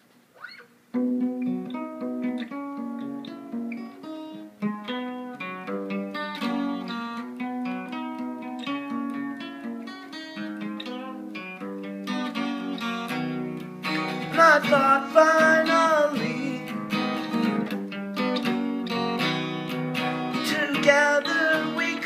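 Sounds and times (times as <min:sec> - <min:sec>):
acoustic guitar picking: 0:00.4 - 0:22.0.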